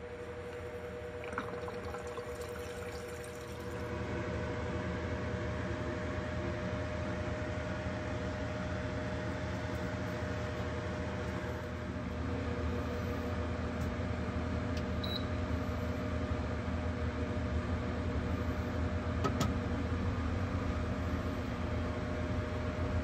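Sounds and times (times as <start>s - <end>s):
fan hum: 0.0s - 23.0s.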